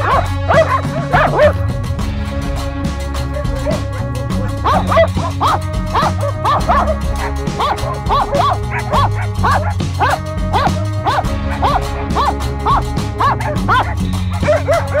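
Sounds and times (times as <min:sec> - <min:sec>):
background music: 0:00.0 - 0:15.0
dogs barking: 0:00.0 - 0:15.0.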